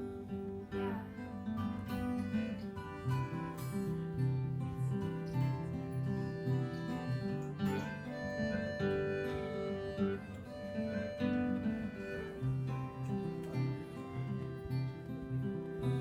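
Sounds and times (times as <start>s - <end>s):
lead melody line: 0.0s - 16.0s
strummed guitar: 0.0s - 16.0s.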